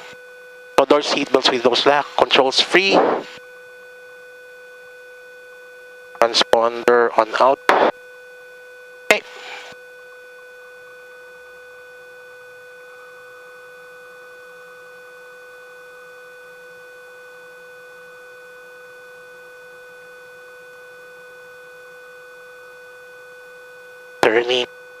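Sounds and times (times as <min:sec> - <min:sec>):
steady electrical tone: 0:00.0 - 0:25.0.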